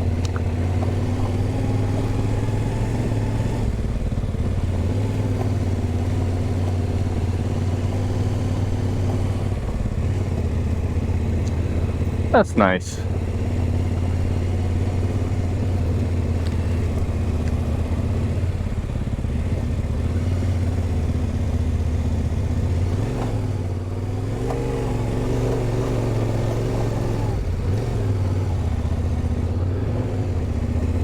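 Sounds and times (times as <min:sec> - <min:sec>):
motorcycle engine at low speed: 0:00.0 - 0:31.0.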